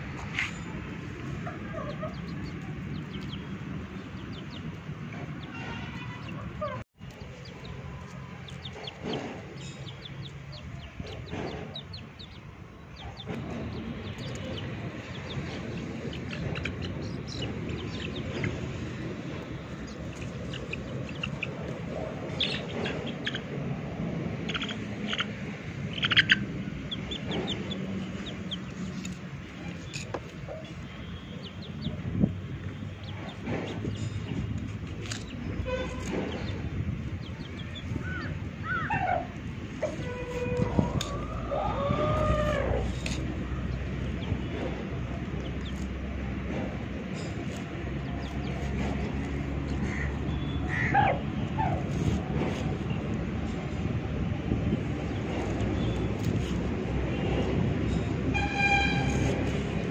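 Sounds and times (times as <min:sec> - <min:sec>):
chickens chirping: 0:00.1 - 0:59.9.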